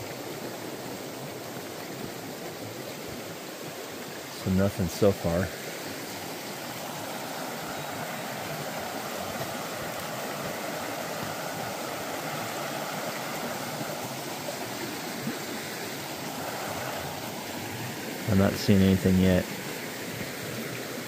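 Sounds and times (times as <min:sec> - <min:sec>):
river flowing: 0:00.0 - 0:21.0.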